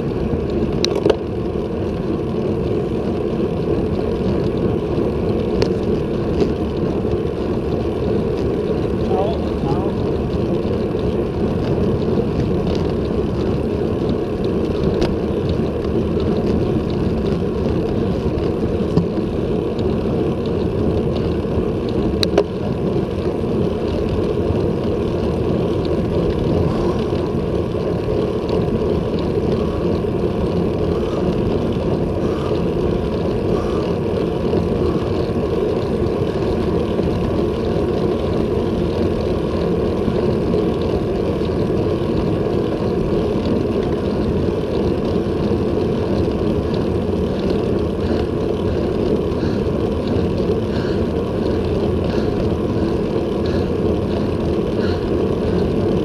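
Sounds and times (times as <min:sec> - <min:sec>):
tyre noise on asphalt: 0:00.0 - 0:56.0
wind rumbling on microphone: 0:00.0 - 0:56.0.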